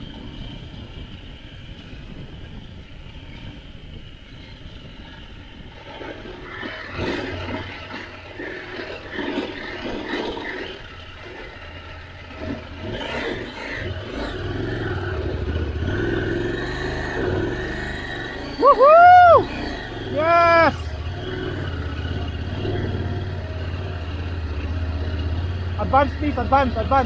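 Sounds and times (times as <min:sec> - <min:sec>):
motorcycle engine revving: 0:00.0 - 0:27.0
tyres on gravel: 0:04.6 - 0:27.0.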